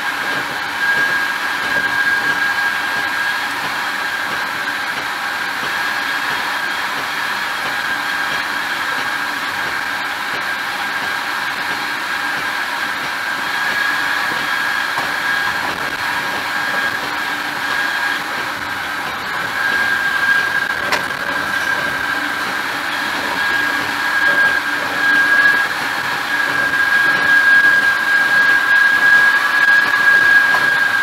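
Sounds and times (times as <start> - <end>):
high whine: 0.0 - 31.0
train rushing at speed: 0.0 - 31.0.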